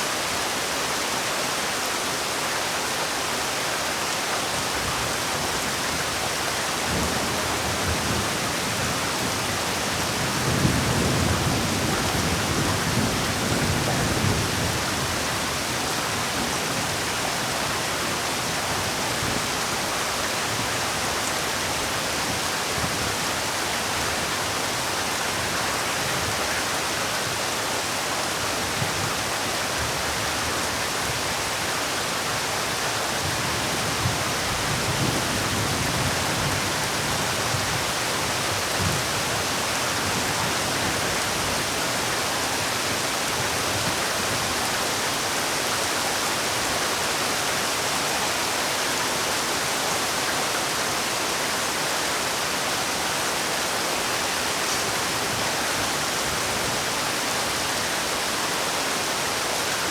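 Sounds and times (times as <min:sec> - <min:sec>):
heavier low rain patters: 0:00.1 - 0:59.9.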